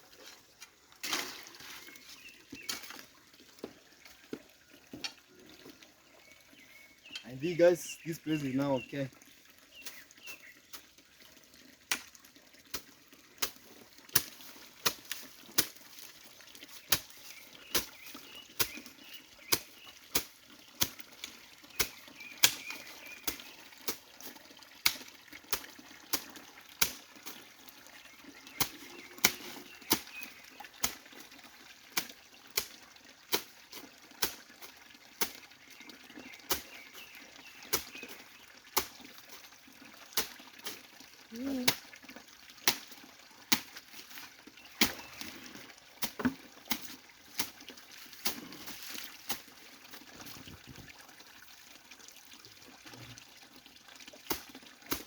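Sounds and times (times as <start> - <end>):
faint water trickle: 0.0 - 55.0.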